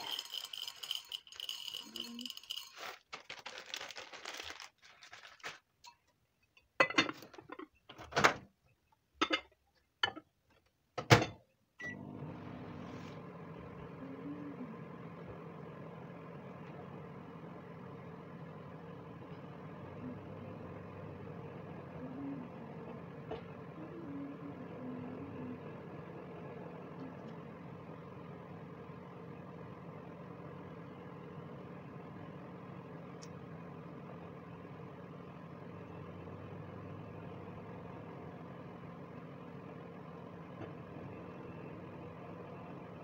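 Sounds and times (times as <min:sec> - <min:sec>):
microwave oven humming: 0:00.0 - 0:02.6, 0:11.0 - 0:43.0.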